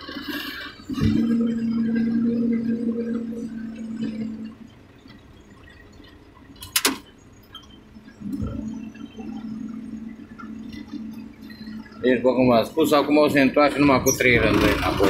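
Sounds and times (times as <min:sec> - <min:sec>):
tractor engine drone: 0:00.0 - 0:15.0.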